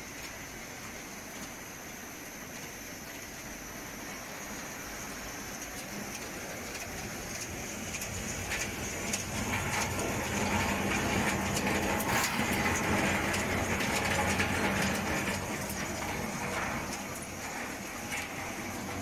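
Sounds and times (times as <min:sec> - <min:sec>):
conveyor motor hum: 0:00.0 - 0:19.0.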